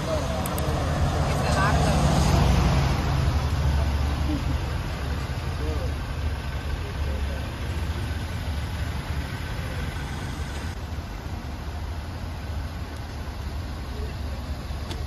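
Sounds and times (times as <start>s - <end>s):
street noise: 0.0s - 15.0s
vehicle engine idling: 0.0s - 15.0s.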